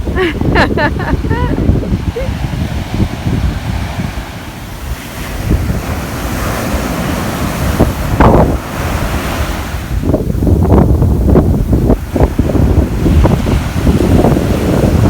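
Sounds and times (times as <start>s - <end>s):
ocean surf crashing: 0.0s - 15.0s
wind buffeting microphone: 0.0s - 15.0s.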